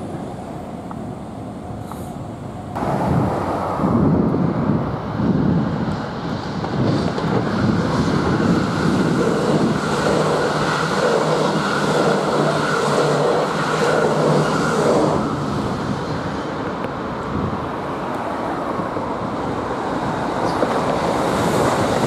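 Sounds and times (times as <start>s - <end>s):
wind noise on microphone: 1.7s - 22.0s.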